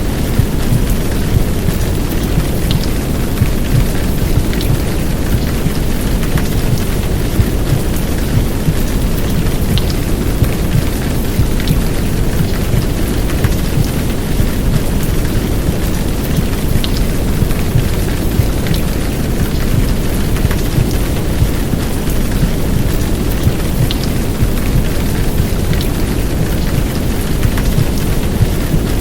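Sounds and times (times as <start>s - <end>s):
heartbeat: 0.0s - 29.0s
heavy rain downpour: 0.0s - 29.0s
white noise: 0.0s - 29.0s.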